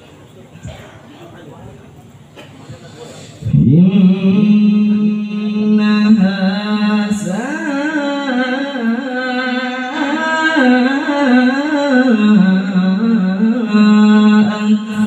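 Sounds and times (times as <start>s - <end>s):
man chanting into a microphone: 2.7s - 15.0s.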